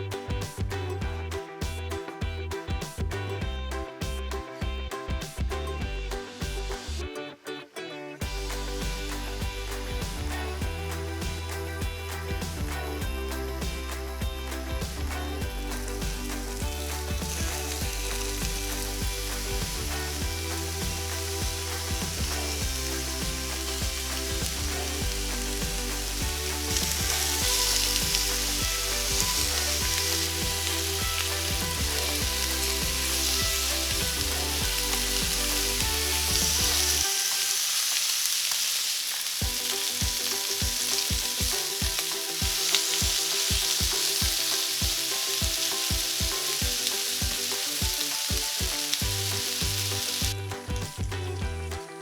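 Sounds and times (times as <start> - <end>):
background music: 0.0 - 38.1, 39.4 - 52.0
pork sizzling in a frying pan: 8.2 - 51.2.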